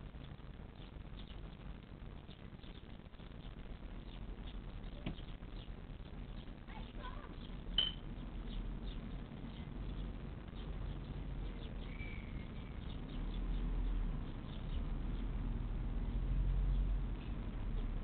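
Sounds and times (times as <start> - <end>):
steady low hum: 0.0 - 18.0
nestling birds cheeping: 0.2 - 3.0, 3.8 - 18.0.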